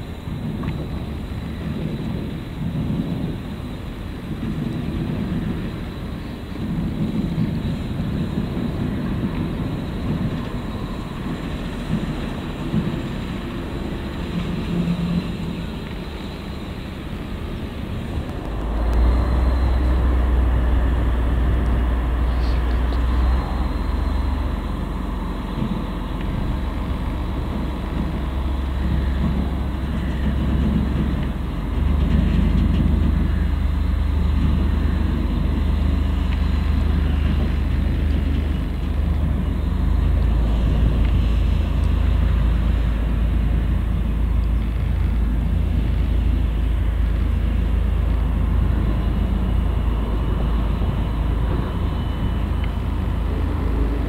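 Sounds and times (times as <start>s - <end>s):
diesel locomotive engine droning: 0.0s - 54.0s.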